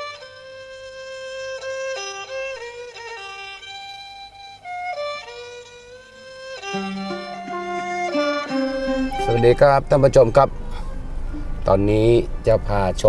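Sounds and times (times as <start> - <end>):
bowed fiddle melody: 0.0 - 13.0.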